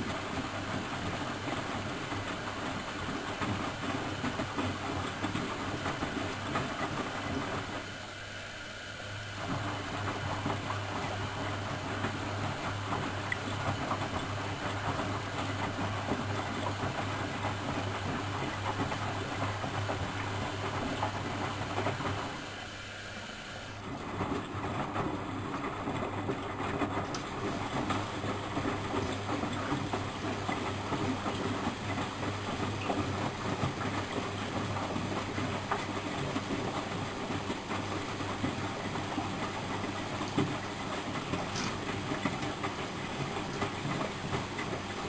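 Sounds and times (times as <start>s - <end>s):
washing machine hum: 0.0s - 45.0s.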